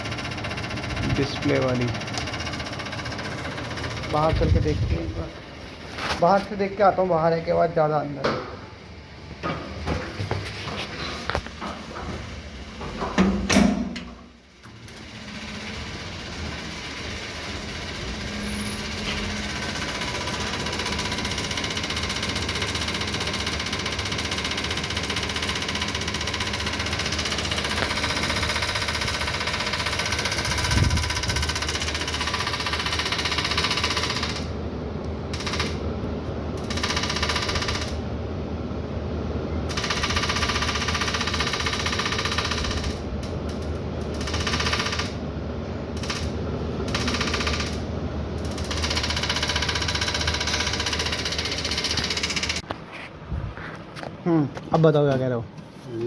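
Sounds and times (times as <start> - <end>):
air conditioner fan rattling: 0.0 - 56.0.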